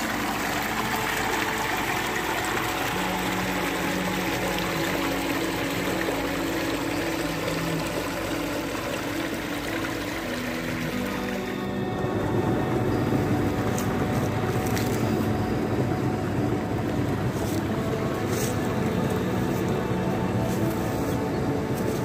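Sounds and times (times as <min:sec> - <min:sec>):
faint background music: 0:00.0 - 0:22.0
water rushing through pipe: 0:00.0 - 0:22.0.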